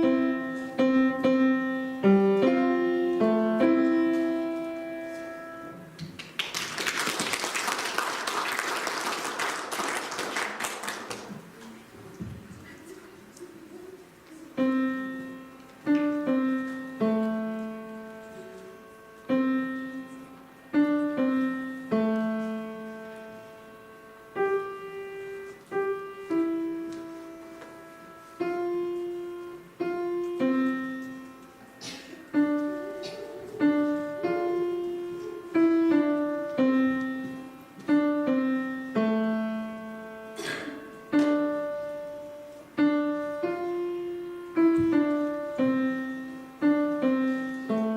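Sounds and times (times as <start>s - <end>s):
solo piano melody: 0.0s - 6.2s, 7.4s - 47.9s.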